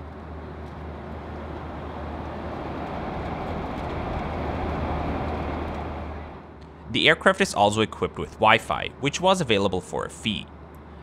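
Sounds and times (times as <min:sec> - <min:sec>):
airflow and engine roar: 0:00.0 - 0:11.0
low hum: 0:00.0 - 0:11.0.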